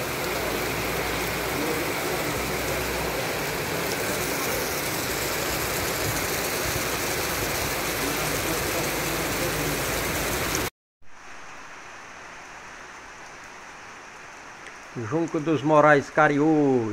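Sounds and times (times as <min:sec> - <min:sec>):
heavy rain on puddled water: 0:00.0 - 0:16.2.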